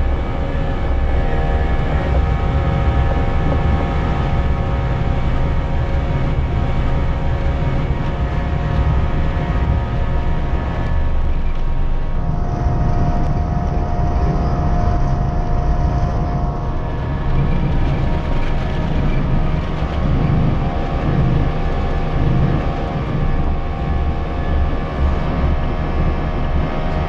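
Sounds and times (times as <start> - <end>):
jet engines at takeoff thrust: 0.0 - 27.0
steady whining tones: 0.0 - 27.0.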